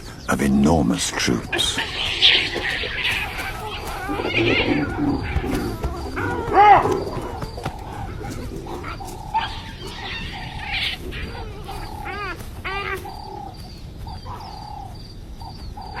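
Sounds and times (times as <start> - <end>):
wild animal calls: 1.1 - 16.0
faint high bird chirps: 1.4 - 16.0.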